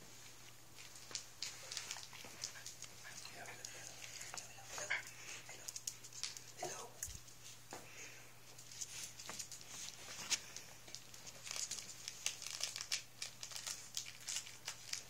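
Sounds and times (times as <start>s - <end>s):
puppies scuffling on rug: 0.0s - 12.2s.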